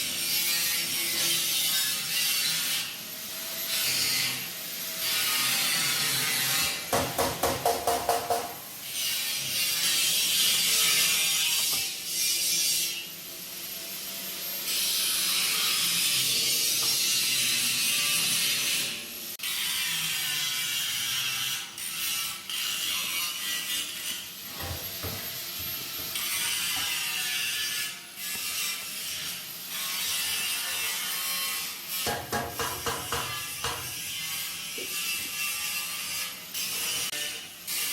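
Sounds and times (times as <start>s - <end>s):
harsh hissing metalworking: 0.0s - 37.9s.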